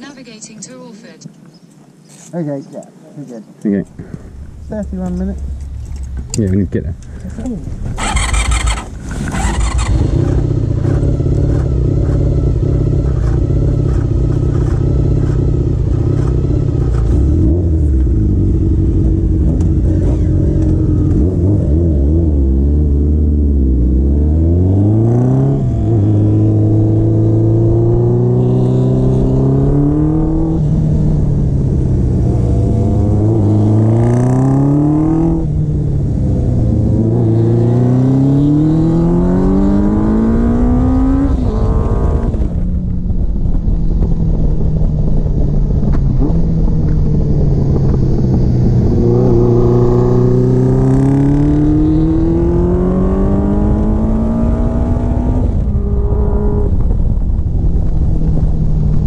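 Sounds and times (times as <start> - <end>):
motorcycle engine idling and accelerating: 0.0 - 59.0.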